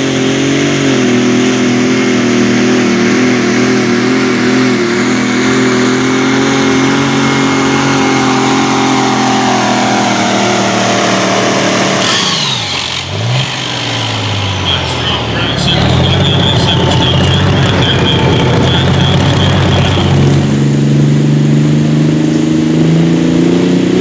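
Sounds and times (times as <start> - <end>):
engine at full throttle: 0.0 - 24.0
high whine: 1.0 - 22.9.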